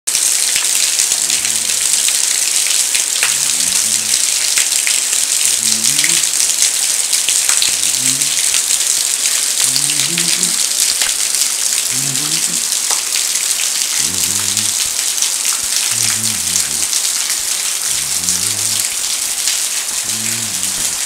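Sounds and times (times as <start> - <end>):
rain splashing on tiled floor: 0.1 - 21.0.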